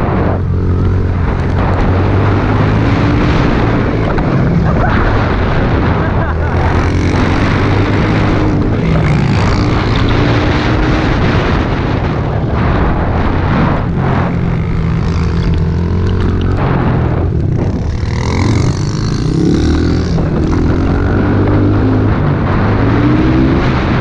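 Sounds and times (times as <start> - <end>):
small motorbike engine revving: 0.0 - 12.0, 12.8 - 24.0.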